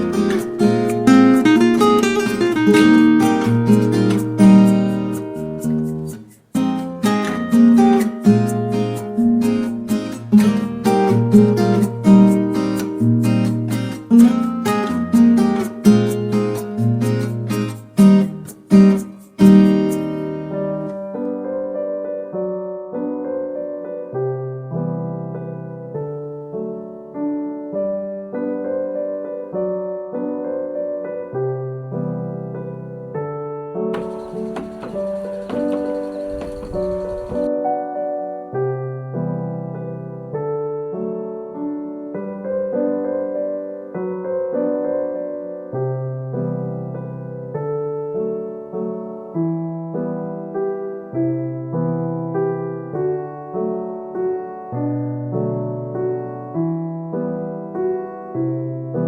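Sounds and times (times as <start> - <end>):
slow piano piece: 0.0 - 37.5, 38.7 - 59.0.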